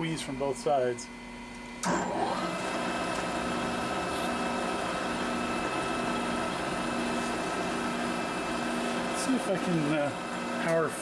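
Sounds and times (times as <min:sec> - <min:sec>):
milling machine saw whine: 0:00.0 - 0:11.0.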